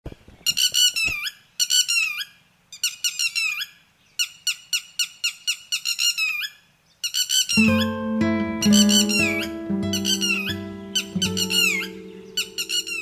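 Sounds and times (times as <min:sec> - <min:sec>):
lapwing shrill alarm call: 0:01.1 - 0:07.8, 0:08.8 - 0:13.0.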